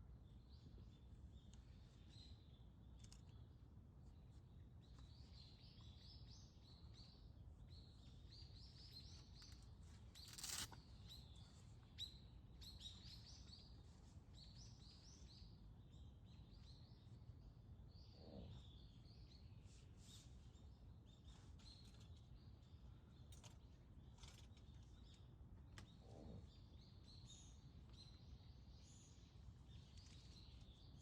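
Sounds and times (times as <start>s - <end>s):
faint low outdoor rumble: 0.0s - 31.0s.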